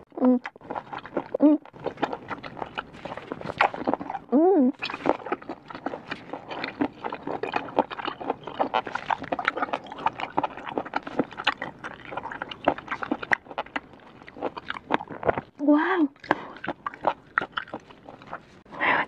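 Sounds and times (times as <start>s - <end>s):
wet mouth chewing smacks: 0.0s - 18.7s.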